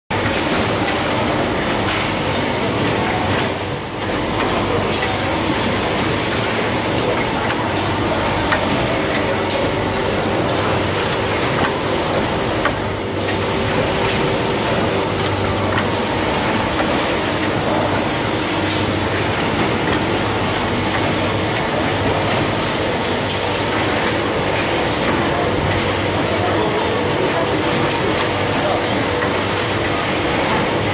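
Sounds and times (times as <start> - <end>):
filling machine humming and hissing: 0.2 - 30.9.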